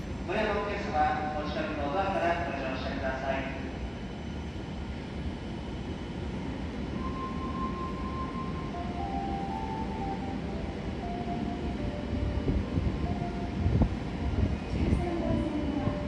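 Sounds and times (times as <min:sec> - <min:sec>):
train engine rumble: 0:00.0 - 0:16.0.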